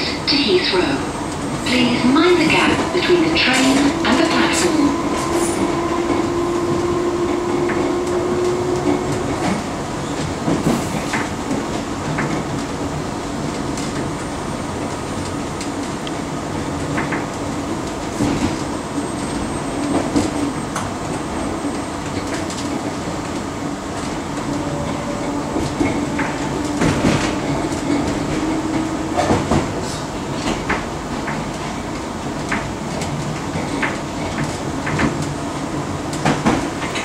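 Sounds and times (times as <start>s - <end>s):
train carriage rumble and hum: 0.0s - 37.0s.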